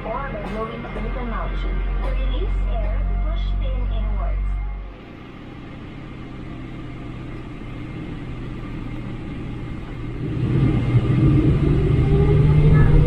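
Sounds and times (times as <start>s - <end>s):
jet engine cabin rumble: 0.0s - 13.0s
rising engine whine: 0.0s - 13.0s.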